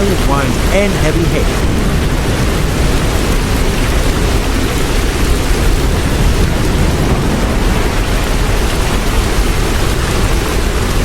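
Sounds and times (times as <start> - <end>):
heavy hail and rain pounding: 0.0 - 11.0
low thunder rumble: 0.0 - 11.0.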